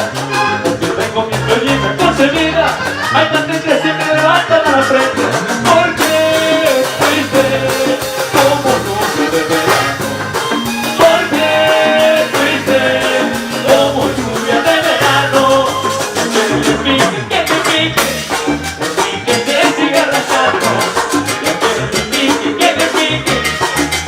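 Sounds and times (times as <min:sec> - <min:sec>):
latin pop song: 0:00.0 - 0:24.0.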